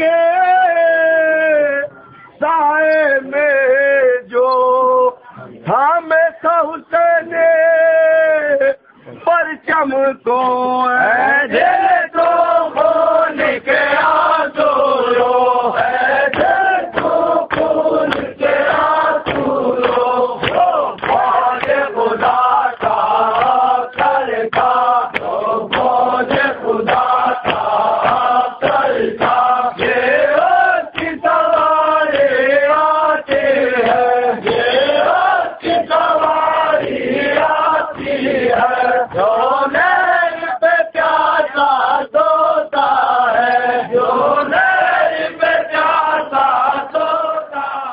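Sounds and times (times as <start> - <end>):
men chanting a lament: 0.0 - 47.9.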